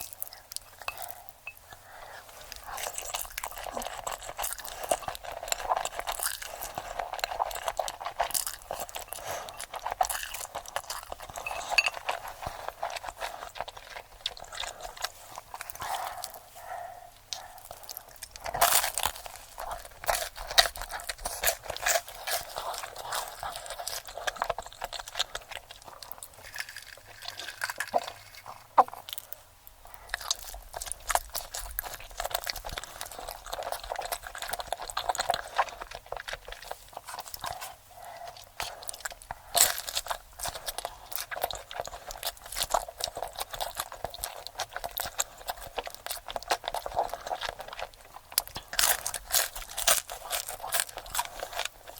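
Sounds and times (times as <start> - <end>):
crunching of crisp food: 0.0 - 51.9.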